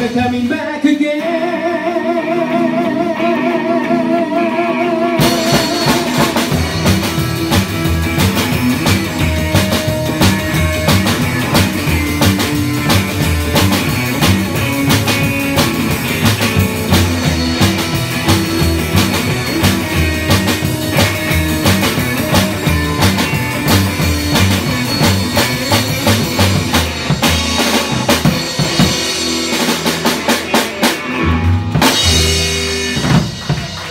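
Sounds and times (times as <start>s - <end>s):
live band playing: 0.0s - 33.9s.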